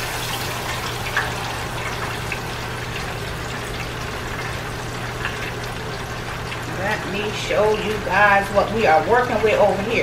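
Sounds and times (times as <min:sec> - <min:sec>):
oil sizzling and bubbling: 0:00.0 - 0:10.0.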